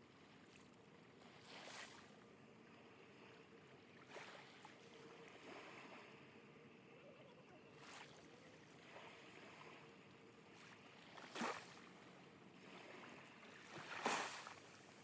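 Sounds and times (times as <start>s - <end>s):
waves lapping at shore: 0.0s - 15.0s.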